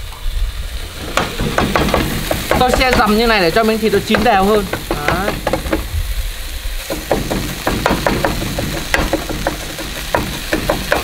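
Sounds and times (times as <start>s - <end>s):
meat crackling in frying pan: 0.0s - 11.0s.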